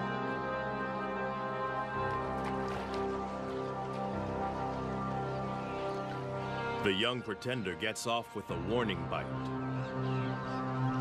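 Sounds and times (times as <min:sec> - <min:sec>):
music score with sustained chords: 0:00.0 - 0:11.0.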